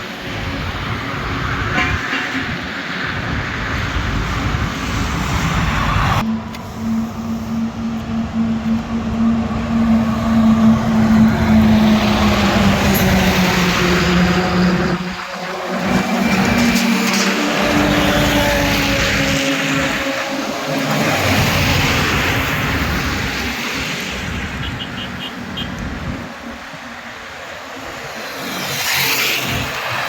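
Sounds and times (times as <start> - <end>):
highway traffic: 0.0 - 30.0.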